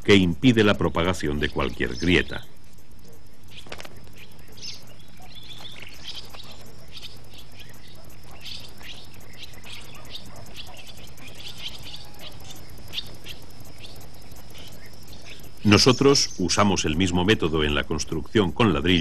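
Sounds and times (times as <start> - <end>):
swallows twittering: 0.0 - 19.0.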